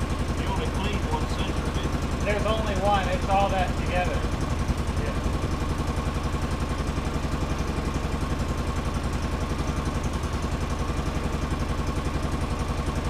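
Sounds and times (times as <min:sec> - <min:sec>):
engine idling unevenly: 0:00.0 - 0:13.0.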